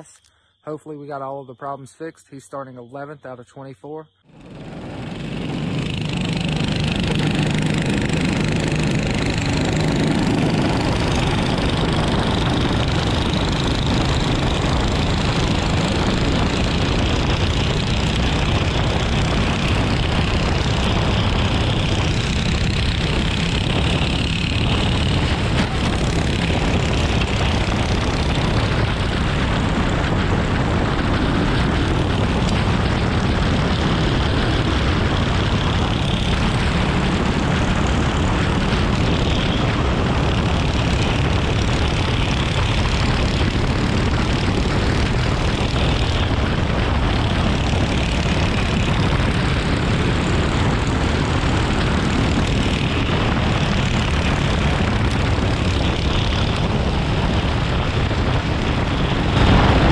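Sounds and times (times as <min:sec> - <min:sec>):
kart engine running hard: 0:04.3 - 0:59.9
other kart engines: 0:04.3 - 0:59.9.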